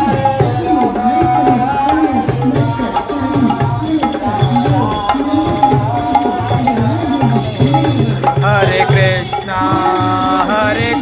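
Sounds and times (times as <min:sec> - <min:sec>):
sustained wavering melody: 0:00.0 - 0:11.0.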